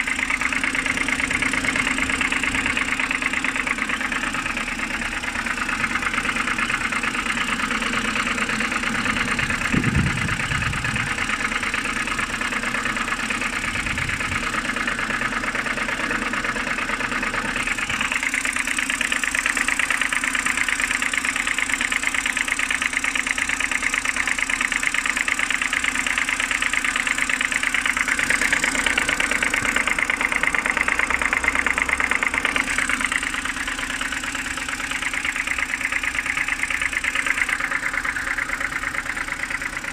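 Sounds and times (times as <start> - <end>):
car engine idling: 0.0 - 39.9
rapid engine knocking: 0.0 - 39.9.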